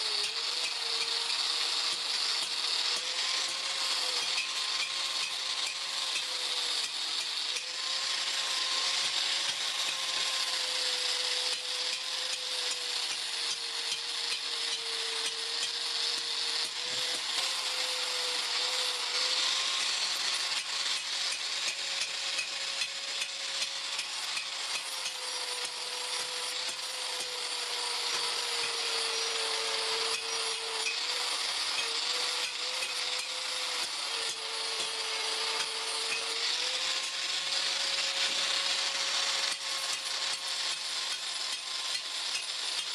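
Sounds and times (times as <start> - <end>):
grinder on steel: 0.0 - 42.9.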